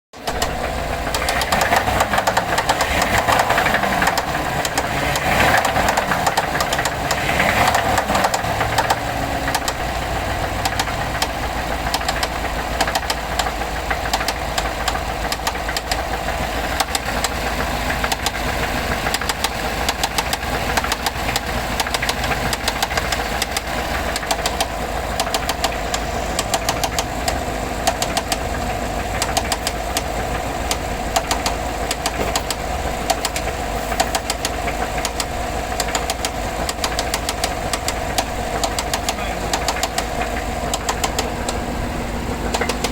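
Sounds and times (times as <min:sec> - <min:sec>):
engine knocking: 0:00.1 - 0:42.9
engine revving: 0:00.2 - 0:42.9.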